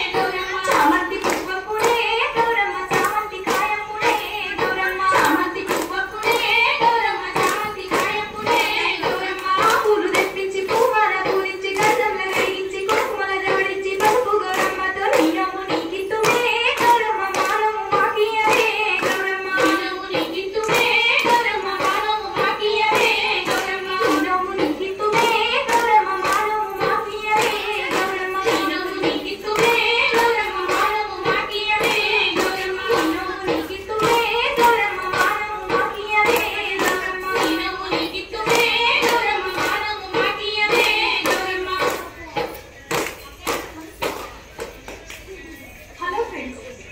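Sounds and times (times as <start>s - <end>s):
women singing folk song: 0.0s - 42.3s
women clapping in rhythm: 0.0s - 46.0s.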